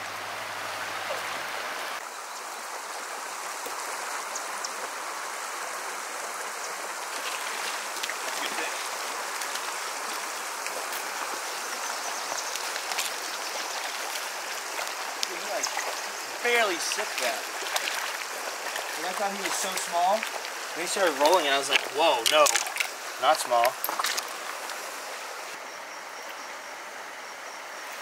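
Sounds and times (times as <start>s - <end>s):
creek water rushing over stones: 0.0s - 25.6s.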